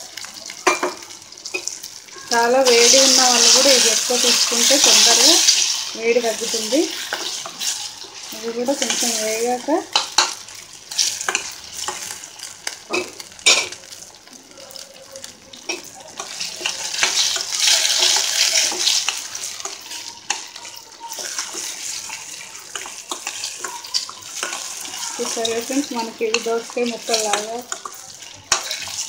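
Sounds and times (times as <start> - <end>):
frying sizzle: 0.0 - 29.0.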